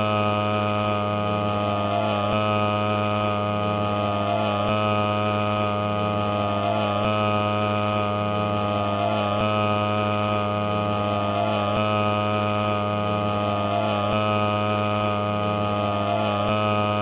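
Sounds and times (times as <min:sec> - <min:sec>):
loud buzzing hum: 0:00.0 - 0:17.0.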